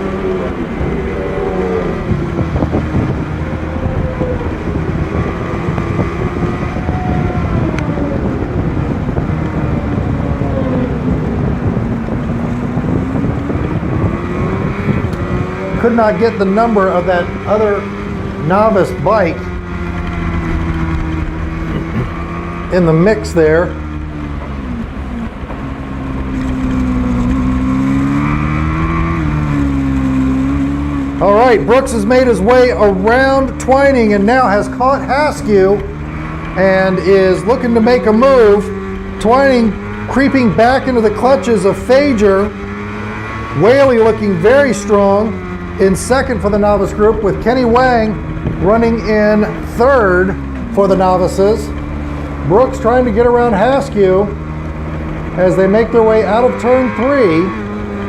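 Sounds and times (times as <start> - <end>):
motorcycle engine running hard: 0.0 - 58.0
wind noise: 0.0 - 58.0.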